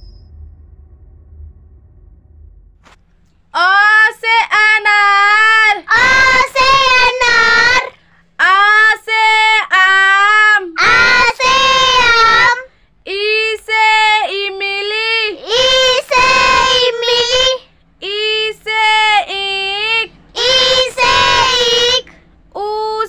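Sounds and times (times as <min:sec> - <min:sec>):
child singing: 0:03.6 - 0:23.0.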